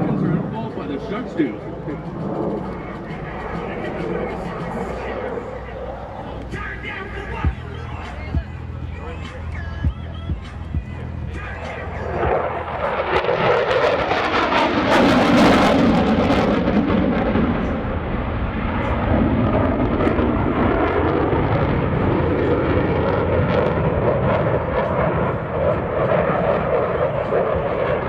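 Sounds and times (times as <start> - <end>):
jet engine flyby: 0.0 - 28.0.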